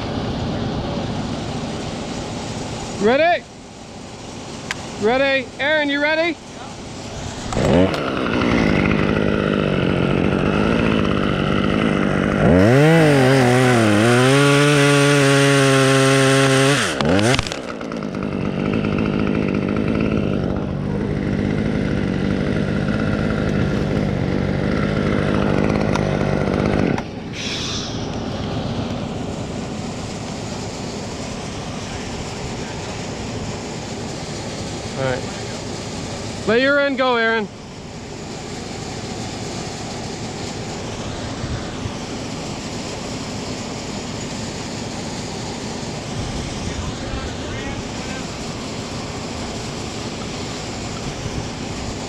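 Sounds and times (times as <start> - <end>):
chainsaw running: 0.0 - 52.0.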